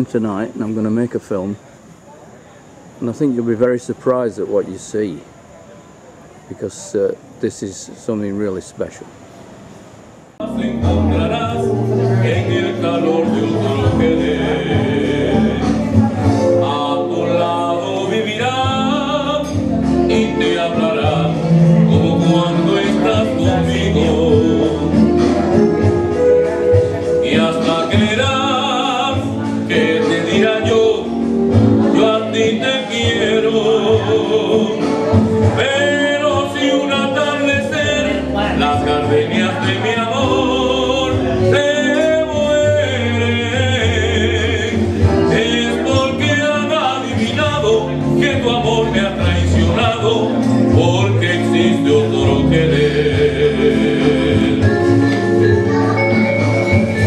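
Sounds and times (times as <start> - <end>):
accompanying music with bass line: 10.4 - 57.0
man singing with vibrato: 10.4 - 57.0.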